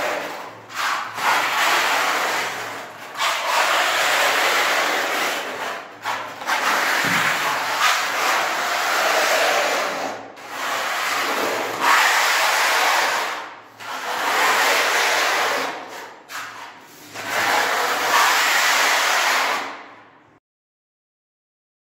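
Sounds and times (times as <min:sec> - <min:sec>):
putty blade scraping a wall: 0:00.0 - 0:19.9.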